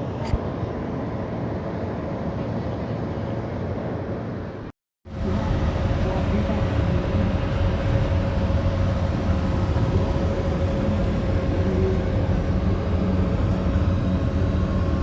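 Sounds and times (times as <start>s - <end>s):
helicopter rumble: 0.0s - 15.0s.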